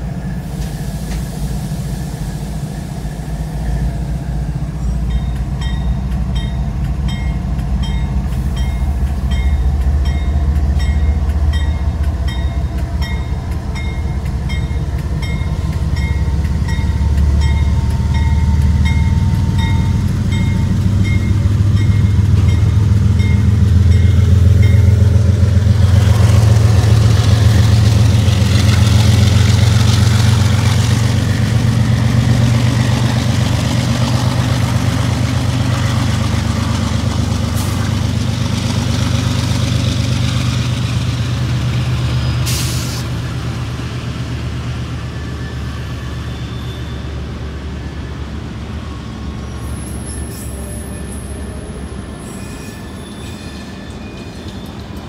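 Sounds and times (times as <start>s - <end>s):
diesel locomotives rumbling: 0.0s - 55.0s
rail cars rolling by: 0.0s - 55.0s.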